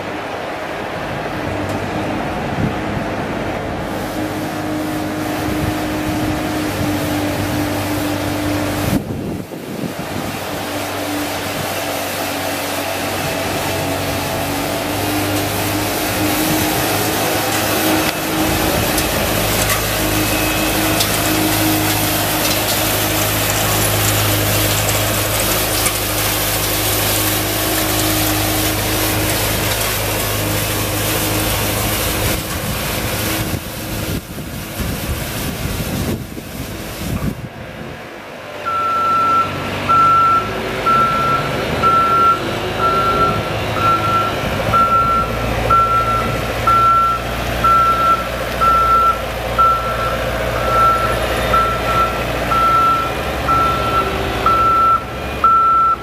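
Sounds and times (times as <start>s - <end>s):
ride-on sweeper engine drone: 0.0s - 56.0s.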